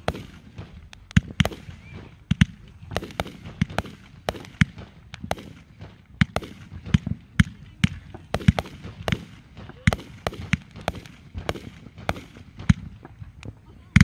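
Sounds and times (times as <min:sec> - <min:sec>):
fireworks bursting with sharp bangs: 0:00.0 - 0:14.0.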